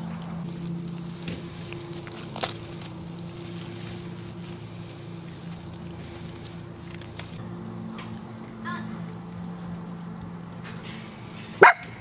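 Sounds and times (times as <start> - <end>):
dry leaves crackling and rustling: 0.0 - 12.0
steady low hum: 0.0 - 12.0.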